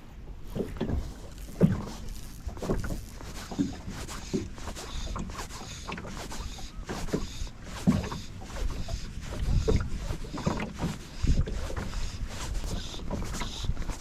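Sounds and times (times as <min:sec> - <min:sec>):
water lapping against hull: 0:00.0 - 0:14.0
knocks and thumps on boat: 0:00.2 - 0:14.0.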